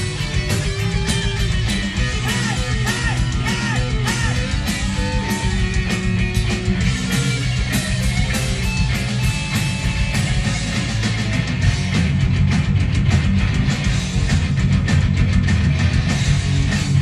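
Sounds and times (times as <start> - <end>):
bass: 0.0 - 17.0
electric guitars: 0.0 - 17.0
fast drum beat: 0.0 - 17.0.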